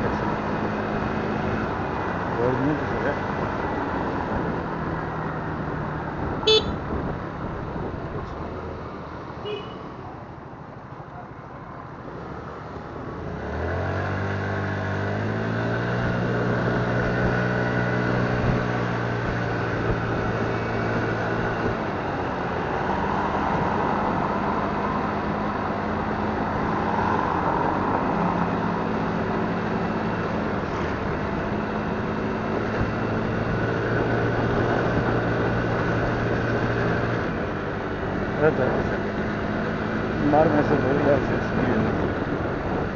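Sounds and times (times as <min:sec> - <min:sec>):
street traffic noise: 0:00.0 - 0:42.9.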